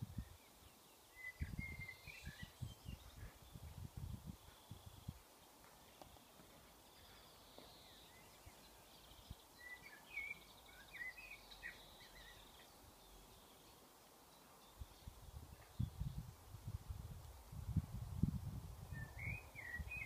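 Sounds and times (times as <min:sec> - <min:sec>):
faint outdoor ambience: 0:00.0 - 0:20.0
soft bird chirps: 0:00.2 - 0:16.4, 0:18.9 - 0:20.0.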